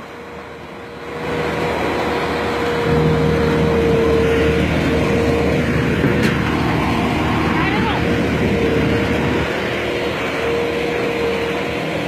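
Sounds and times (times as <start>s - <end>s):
road roller diesel engine: 0.0s - 12.0s
steady whine: 0.0s - 12.0s.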